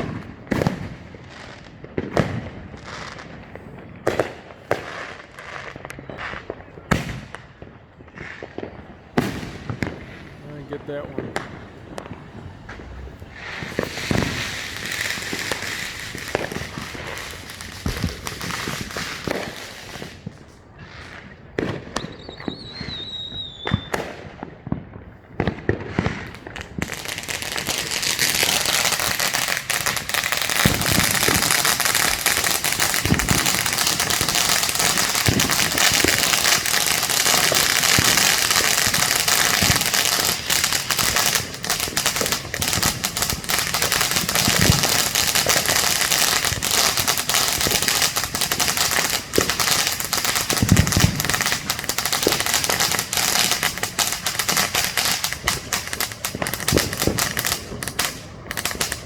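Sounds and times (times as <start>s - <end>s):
firework bangs: 0.0s - 59.0s
firework crackling: 0.0s - 59.0s
falling firework whistle: 8.4s - 20.4s, 21.6s - 24.2s, 25.8s - 59.0s.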